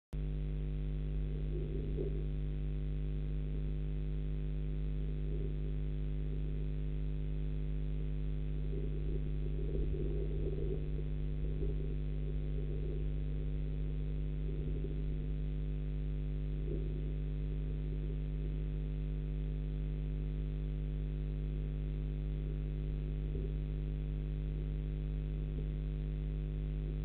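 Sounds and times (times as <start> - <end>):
electrical hum: 0.2 - 27.0.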